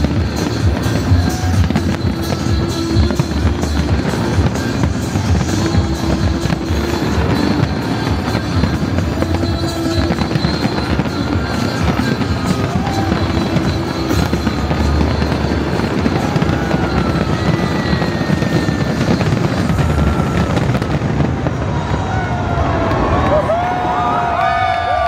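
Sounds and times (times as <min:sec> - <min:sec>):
music over loudspeakers: 0:00.0 - 0:21.2
fireworks crackling and banging: 0:00.0 - 0:25.0.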